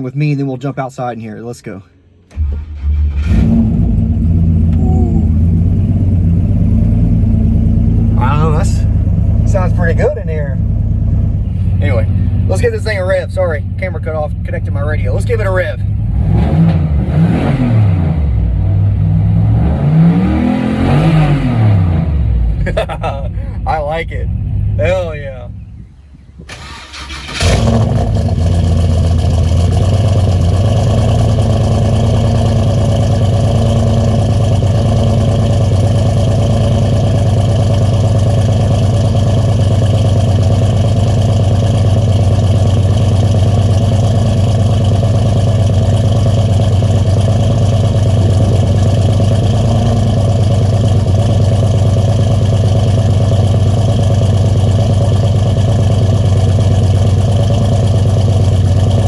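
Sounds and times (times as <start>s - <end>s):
truck engine idling: 1.9s - 16.1s, 22.3s - 59.0s.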